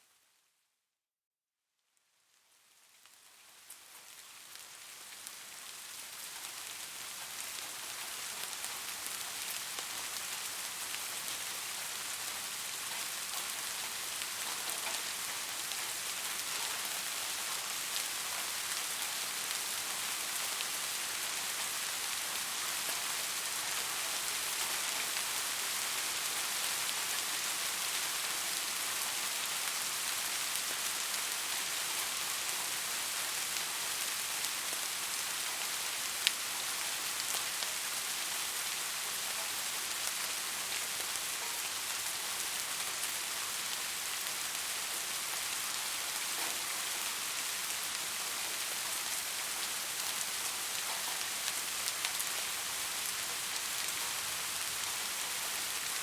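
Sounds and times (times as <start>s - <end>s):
steady rain: 2.1s - 56.0s.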